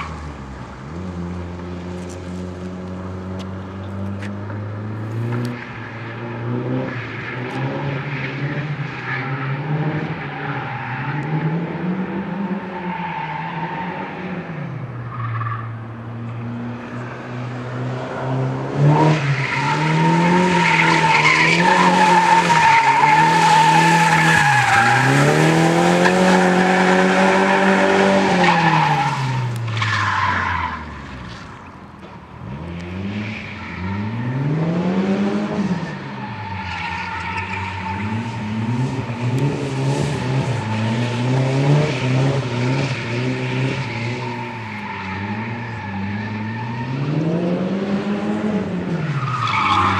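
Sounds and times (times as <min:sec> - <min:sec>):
car engine revving: 0:00.0 - 0:31.7, 0:32.4 - 0:49.9.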